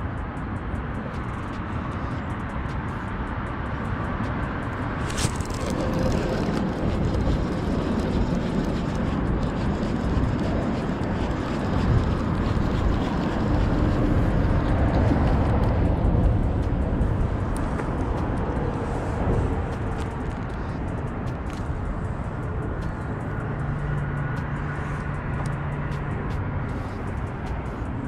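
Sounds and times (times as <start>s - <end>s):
highway traffic rumble: 0.0s - 28.0s.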